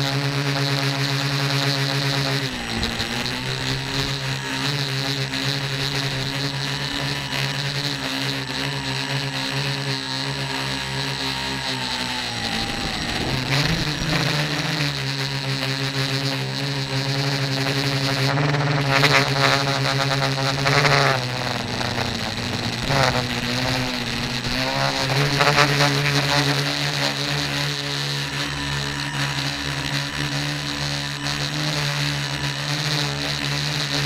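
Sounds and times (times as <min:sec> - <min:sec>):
drone motors and propellers whining: 0:00.0 - 0:34.0.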